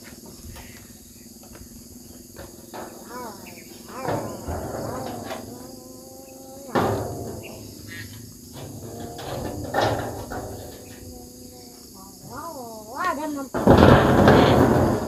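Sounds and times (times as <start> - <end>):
crickets chirring: 0.0 - 15.0
hammer blows on metal roofing: 0.0 - 15.0.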